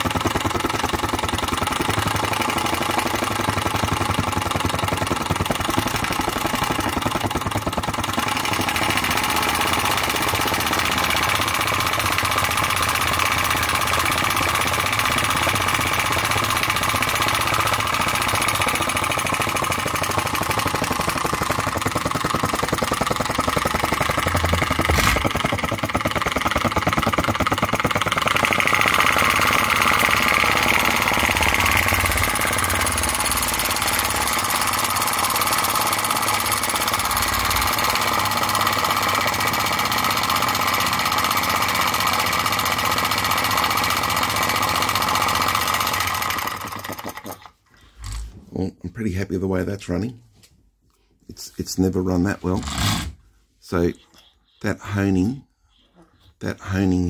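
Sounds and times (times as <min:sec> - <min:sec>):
small engine rapid clatter: 0:00.0 - 0:48.4, 0:52.5 - 0:53.1.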